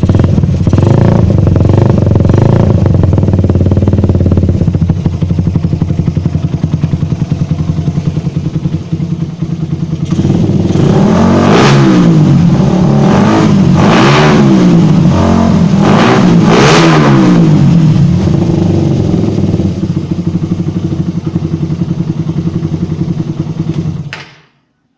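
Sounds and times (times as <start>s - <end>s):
motorcycle engine idling and revving: 0.0s - 24.4s.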